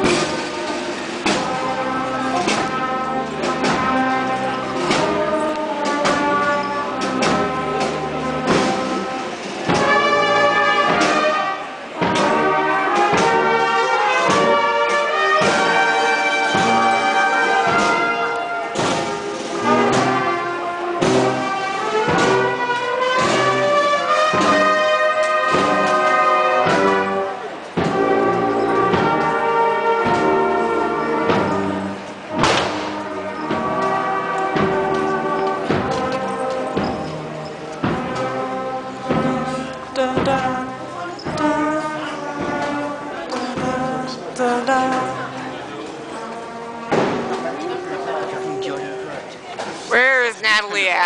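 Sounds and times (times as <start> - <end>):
steady drum beat: 0.0 - 45.2
marching brass band playing: 0.0 - 51.0.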